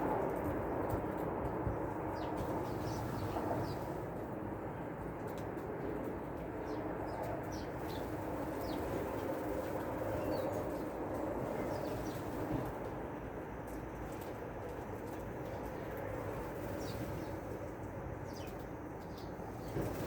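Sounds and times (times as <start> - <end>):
songbirds chirping: 1.1 - 20.0.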